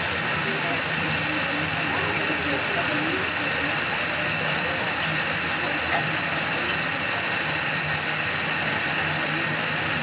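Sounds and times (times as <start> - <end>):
funicular running on rails: 0.0 - 10.0.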